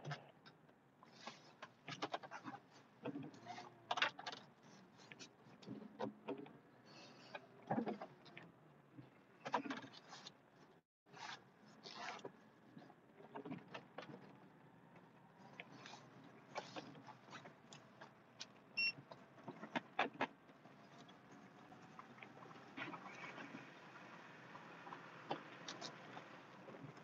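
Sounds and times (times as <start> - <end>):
clicks and rattles inside truck cab: 0.0 - 10.4, 11.8 - 23.7.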